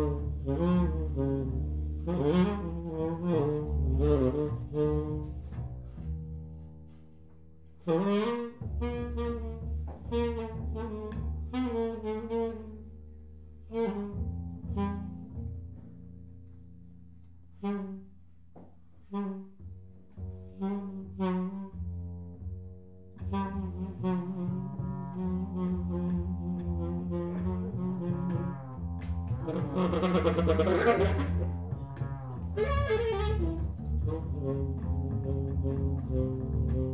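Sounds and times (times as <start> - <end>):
double bass notes: 0.0 - 36.9
tenor saxophone: 0.0 - 36.9.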